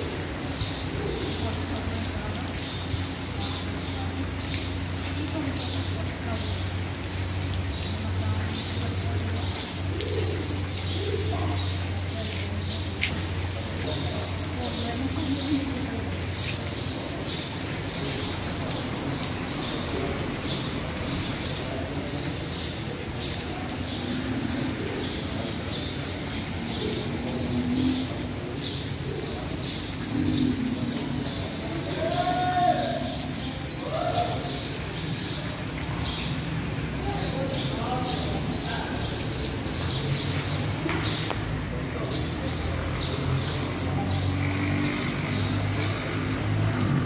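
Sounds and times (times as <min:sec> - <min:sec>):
rain on tarpaulin roofs: 0:00.0 - 0:47.0.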